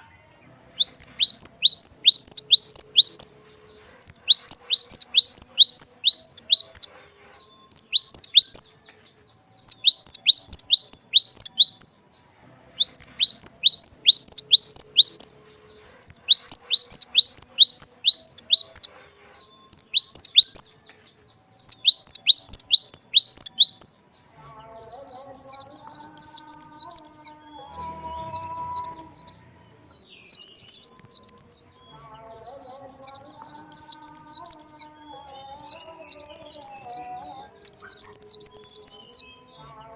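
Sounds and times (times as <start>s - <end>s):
bird singing high sharp notes: 0.0s - 8.8s, 9.4s - 12.0s, 12.8s - 24.0s, 24.7s - 39.9s.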